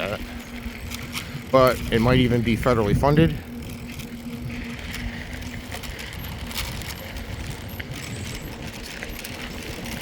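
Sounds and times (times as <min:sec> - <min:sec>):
bike clicks and rattles: 0:00.0 - 0:10.0
bike tyre noise: 0:00.0 - 0:10.0
wind rumbling on microphone: 0:00.0 - 0:10.0.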